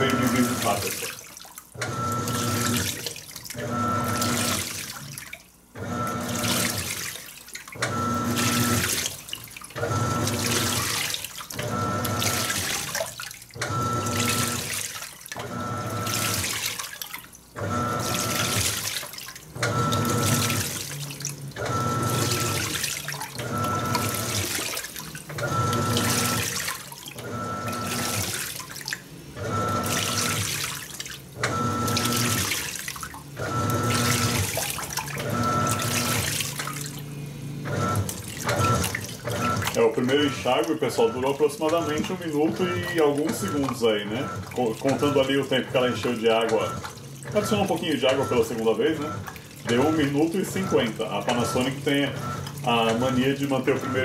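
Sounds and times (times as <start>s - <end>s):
washing machine motor humming: 0.0s - 54.0s
water sloshing in tub: 0.0s - 54.0s.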